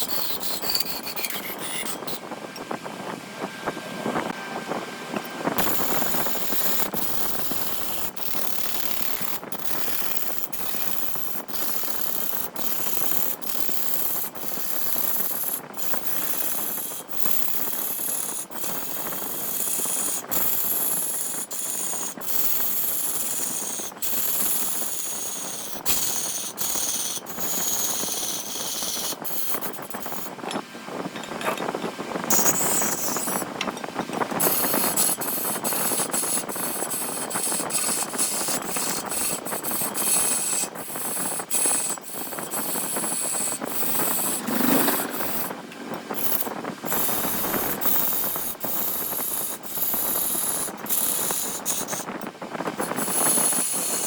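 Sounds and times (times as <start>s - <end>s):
wood lathe tool rasping: 0.0s - 2.2s, 5.6s - 30.3s, 32.3s - 33.5s, 34.2s - 52.2s, 52.8s - 54.0s.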